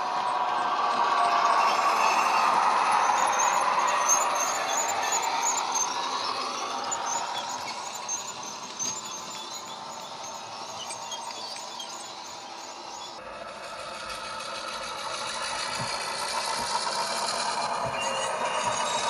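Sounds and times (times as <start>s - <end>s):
model locomotive diesel engine sound: 0.0s - 19.0s
model wagon wheels clicking: 0.0s - 19.0s.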